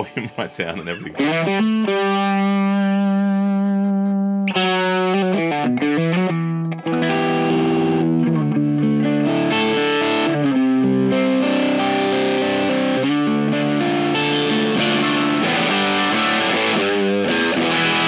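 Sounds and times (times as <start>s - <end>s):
overdriven electric guitar: 0.0s - 18.0s.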